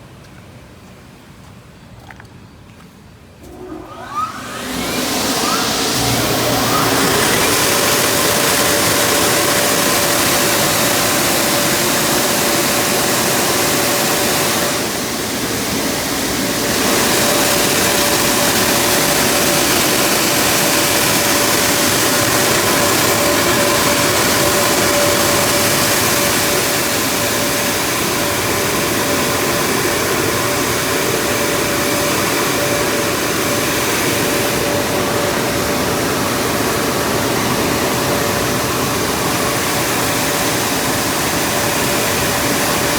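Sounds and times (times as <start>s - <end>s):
car wash dryers blowing air: 3.4s - 42.9s.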